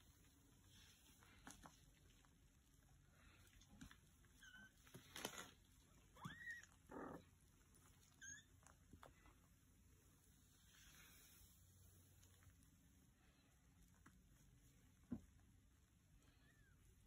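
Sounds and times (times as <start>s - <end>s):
soft rustling: 0.0s - 17.0s.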